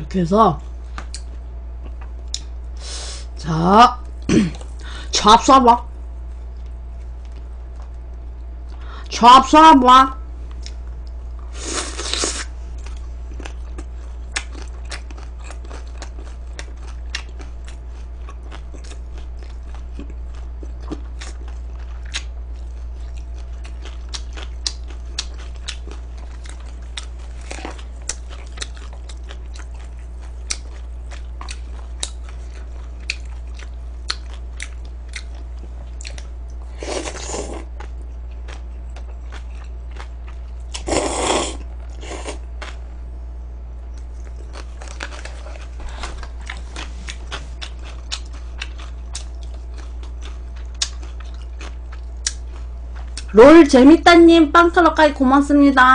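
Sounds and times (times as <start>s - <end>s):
low hum: 0.0s - 55.9s
chewing and crunching: 0.6s - 2.7s, 6.1s - 8.8s, 10.4s - 53.4s.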